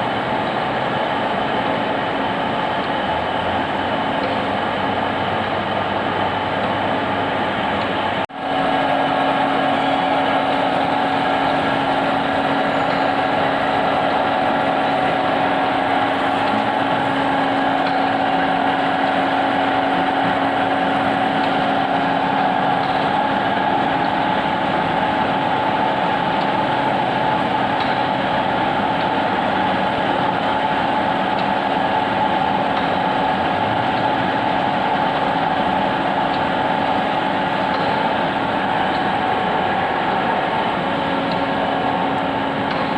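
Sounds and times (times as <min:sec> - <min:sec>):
lathe humming and whining: 0:00.0 - 0:42.9.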